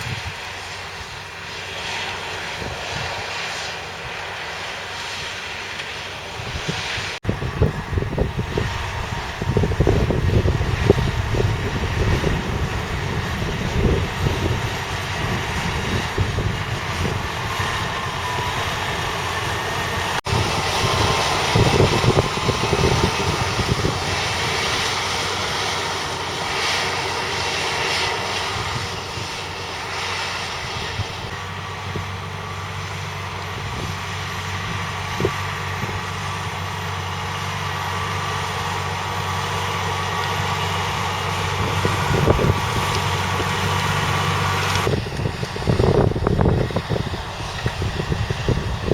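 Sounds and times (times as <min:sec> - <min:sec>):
diesel engine rumbling: 0:00.0 - 0:48.9.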